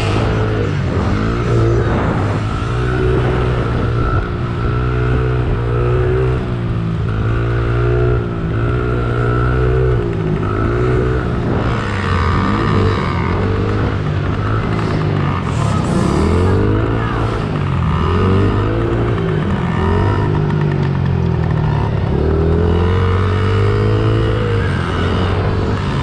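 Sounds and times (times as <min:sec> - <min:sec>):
dirt bike engine revving: 0:00.0 - 0:26.0
second dirt bike engine: 0:00.0 - 0:26.0.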